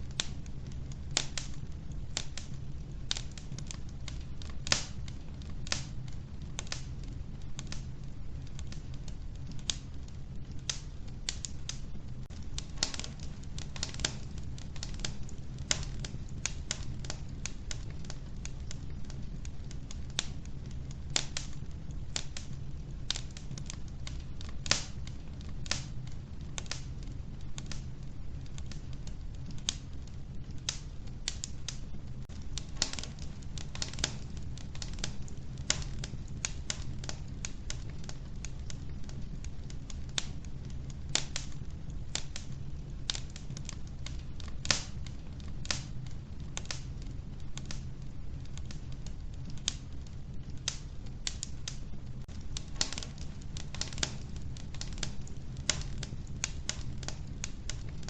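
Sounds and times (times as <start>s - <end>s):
logs crackling in stove: 0.0s - 58.0s.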